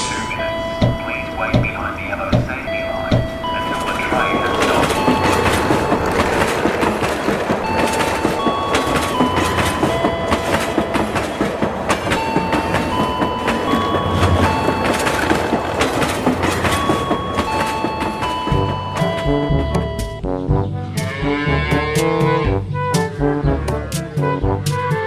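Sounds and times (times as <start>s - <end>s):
train wheels rumbling and clattering: 0.0s - 20.2s.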